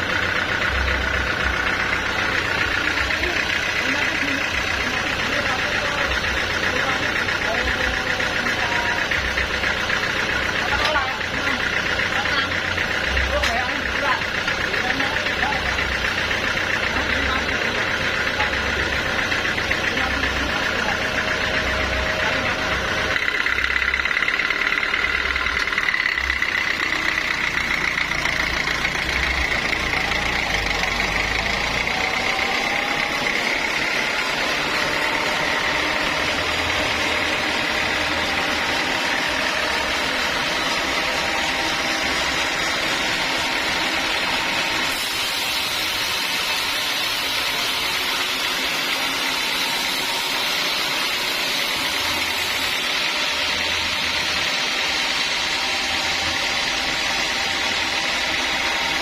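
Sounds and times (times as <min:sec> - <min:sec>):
high whine: 0:00.0 - 0:59.0
sawmill machinery running: 0:00.0 - 0:59.0.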